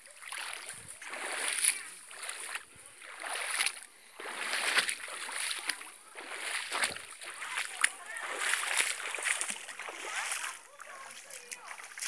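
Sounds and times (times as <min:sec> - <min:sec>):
feet wading through water: 0:00.0 - 0:12.0.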